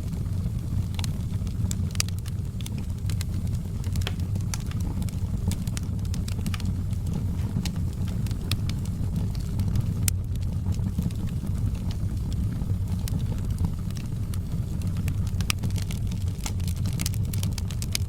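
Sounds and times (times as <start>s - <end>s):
fire crackling pops: 0.0s - 18.0s
wood fire rumbling: 0.0s - 18.0s.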